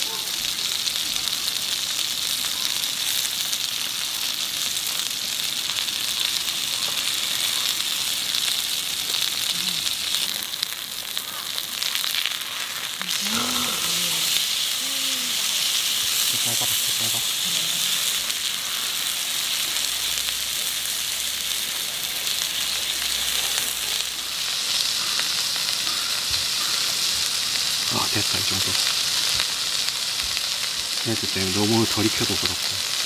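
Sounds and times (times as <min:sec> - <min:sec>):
steak sizzling in a pan: 0:00.0 - 0:33.0.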